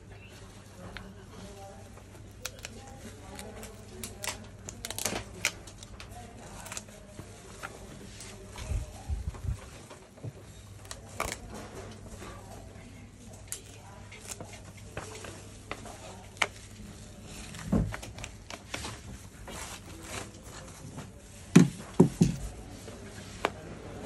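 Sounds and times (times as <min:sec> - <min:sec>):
plastic sheet rustling and crinkling: 0:00.4 - 0:23.7.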